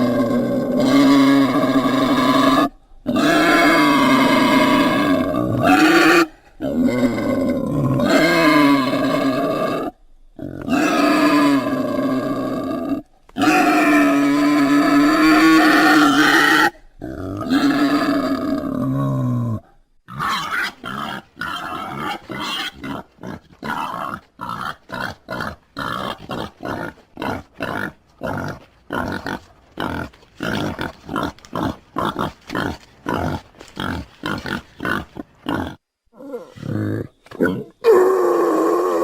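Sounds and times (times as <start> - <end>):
wild boar grunting: 0.0 - 39.0.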